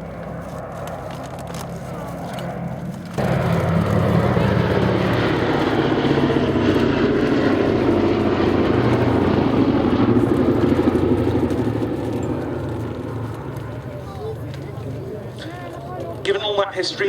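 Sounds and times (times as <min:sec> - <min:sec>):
propeller aircraft engines droning: 0:00.0 - 0:17.0.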